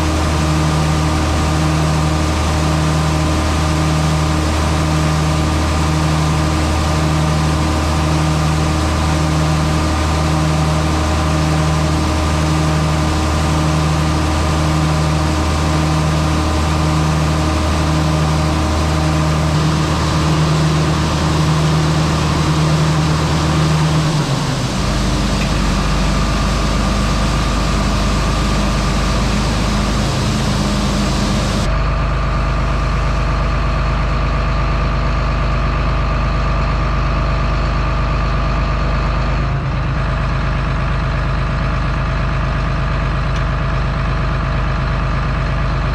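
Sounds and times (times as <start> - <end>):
heavy machinery engine running: 0.0 - 45.9.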